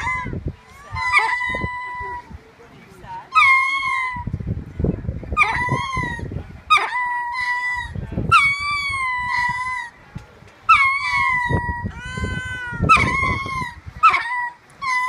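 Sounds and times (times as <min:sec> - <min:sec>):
lemur calls: 0:00.0 - 0:02.3, 0:03.3 - 0:04.3, 0:05.3 - 0:10.0, 0:10.6 - 0:15.0.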